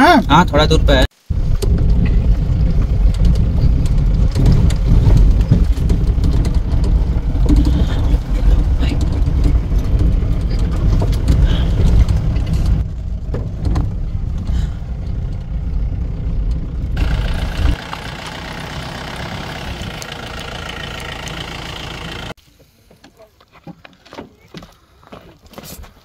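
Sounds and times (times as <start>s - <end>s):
car engine and road rumble: 0.0s - 22.8s.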